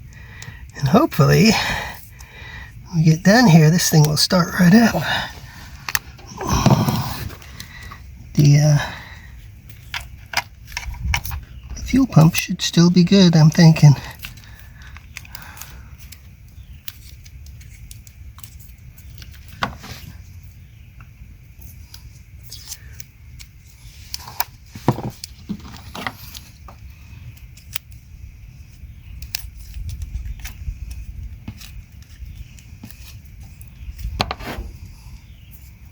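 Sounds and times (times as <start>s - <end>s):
clicks snips and rustles: 5.5s - 8.0s, 9.4s - 35.8s.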